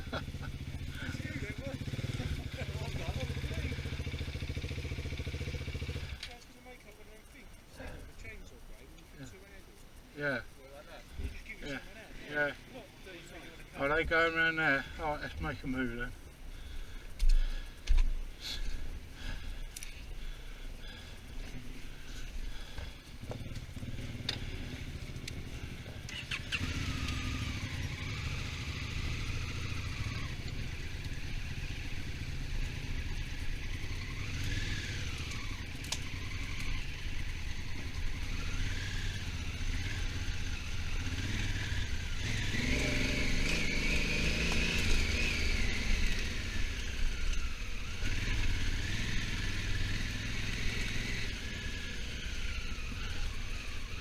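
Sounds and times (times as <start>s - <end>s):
motorcycle engine revving: 0.0s - 9.4s, 10.2s - 54.0s.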